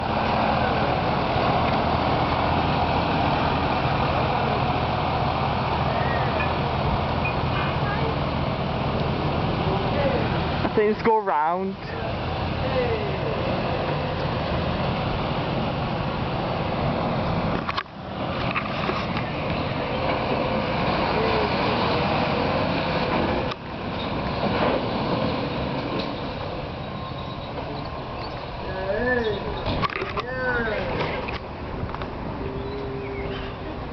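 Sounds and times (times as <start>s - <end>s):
lorry diesel engine rumbling: 0.0s - 33.9s.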